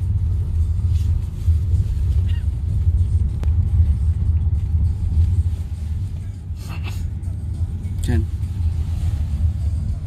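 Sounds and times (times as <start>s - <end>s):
car cabin engine and road rumble: 0.0s - 10.0s.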